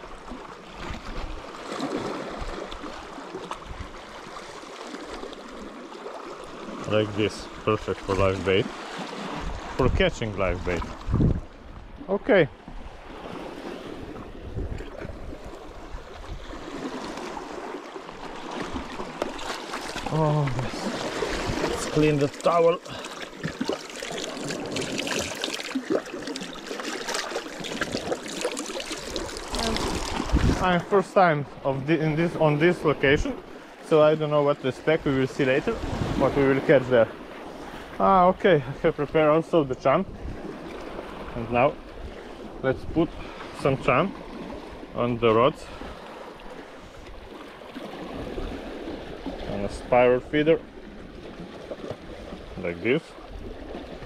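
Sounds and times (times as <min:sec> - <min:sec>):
sea water washing against rocks: 0:00.0 - 0:11.7, 0:12.8 - 0:38.2, 0:39.0 - 0:54.0.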